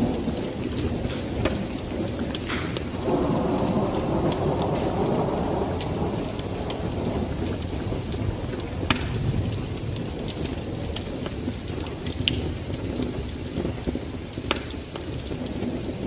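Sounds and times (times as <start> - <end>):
fire crackling and popping: 0.0 - 16.0
wood fire rumbling: 0.0 - 16.0.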